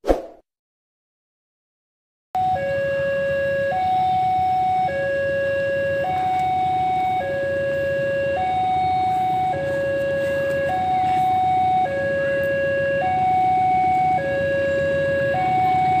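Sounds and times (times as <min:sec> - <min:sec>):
electronic two-tone siren: 0:02.4 - 0:16.0.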